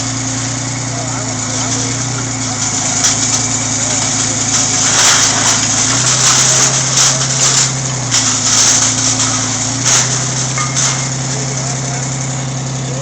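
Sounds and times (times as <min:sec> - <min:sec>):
crusher engine humming: 0:00.0 - 0:13.0.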